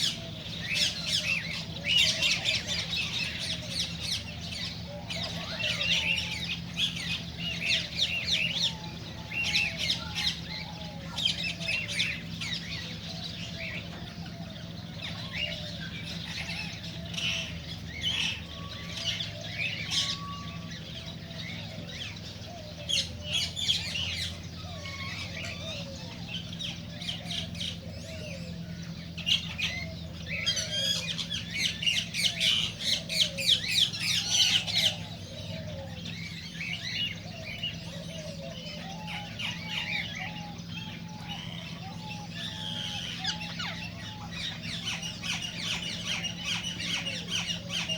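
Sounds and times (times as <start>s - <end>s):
cockatiels chirping and squawking: 0.0s - 22.3s, 22.9s - 47.9s.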